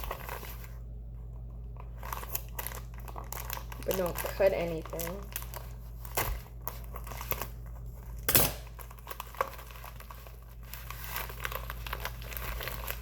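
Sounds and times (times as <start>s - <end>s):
packaging crinkling and tearing: 0.0s - 13.0s.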